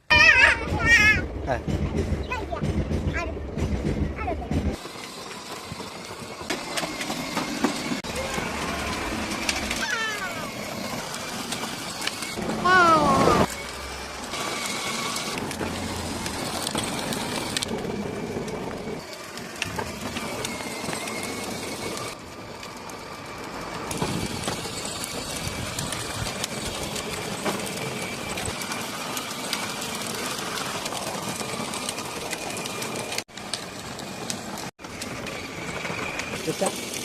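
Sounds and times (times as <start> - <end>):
small electric motor whirring: 4.7 - 37.0.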